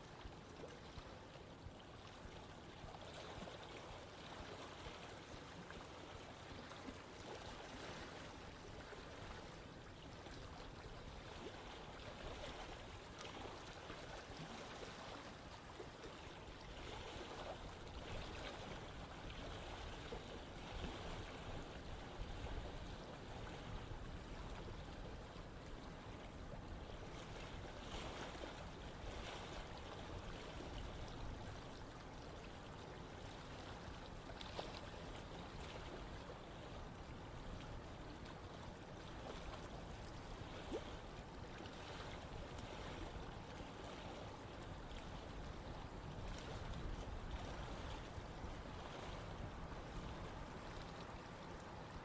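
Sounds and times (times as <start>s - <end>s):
stream water splashing over rocks: 2.1s - 21.7s, 27.1s - 52.0s.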